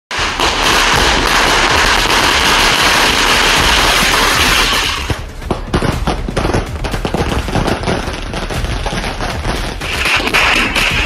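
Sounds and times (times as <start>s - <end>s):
firecrackers banging: 0.1s - 11.0s.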